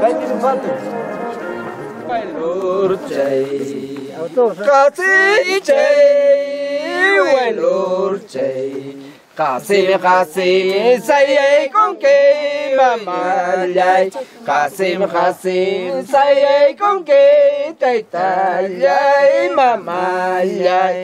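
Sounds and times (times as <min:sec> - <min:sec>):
men singing together: 0:00.0 - 0:21.0.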